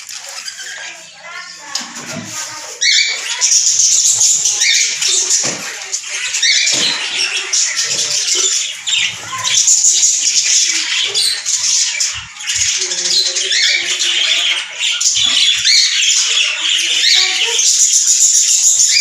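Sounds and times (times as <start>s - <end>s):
parrots chattering and chirping: 0.0s - 19.0s.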